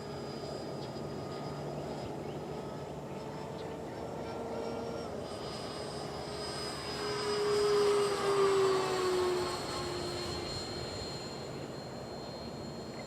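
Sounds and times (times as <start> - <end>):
ducted-fan jet whine flying past: 0.0 - 13.0.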